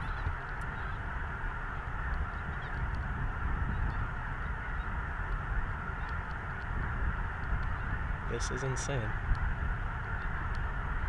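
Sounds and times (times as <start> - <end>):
flock of geese calling: 0.0 - 11.0.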